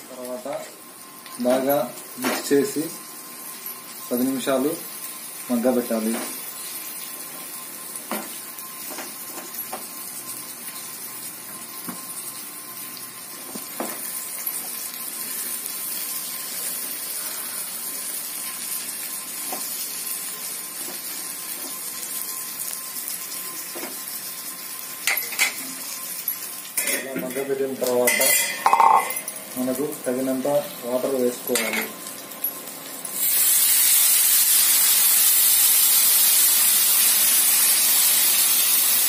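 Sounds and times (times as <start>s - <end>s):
food sizzling in oil: 0.0s - 39.0s.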